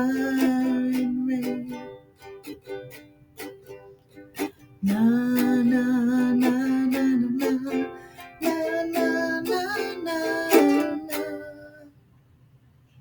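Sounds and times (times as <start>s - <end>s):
ukulele strumming chords: 0.0s - 11.8s.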